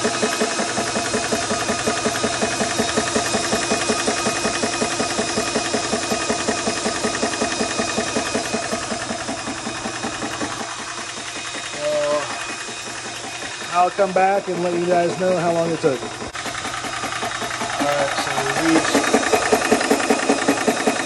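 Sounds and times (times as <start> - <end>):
air compressor pumping: 0.0 - 21.0.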